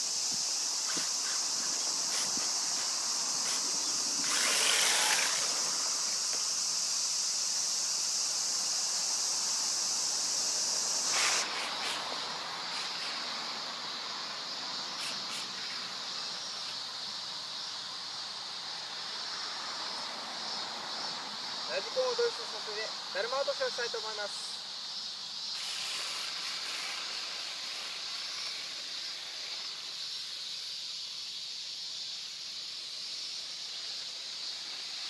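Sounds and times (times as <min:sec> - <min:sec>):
insect chorus droning: 0:00.0 - 0:35.0.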